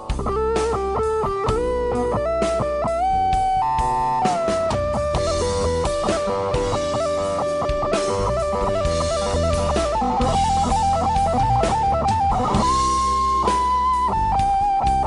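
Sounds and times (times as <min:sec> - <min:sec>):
drums: 0:00.0 - 0:15.0
electric guitar lead: 0:00.0 - 0:15.0.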